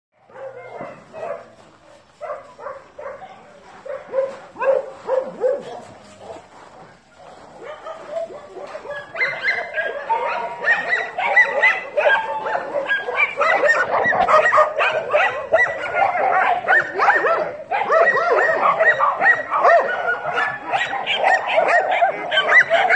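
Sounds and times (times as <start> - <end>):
dogs barking and yipping: 0.2 - 22.9.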